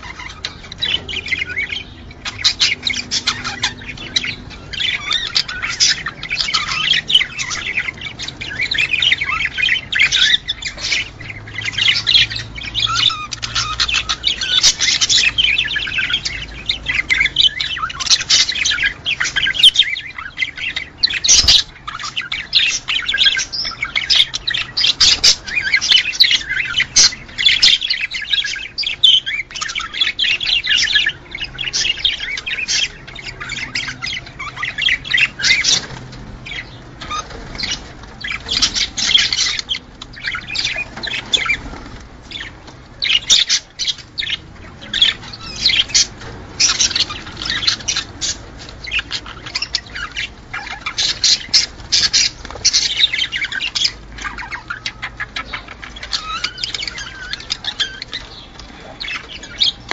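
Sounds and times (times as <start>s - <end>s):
budgerigars chattering and warbling: 0.0s - 59.9s.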